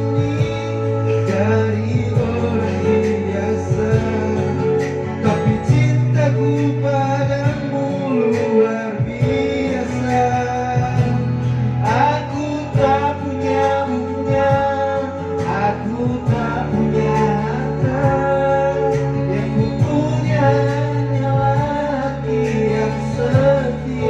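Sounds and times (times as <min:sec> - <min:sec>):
song with guitar and bass: 0:00.0 - 0:24.0.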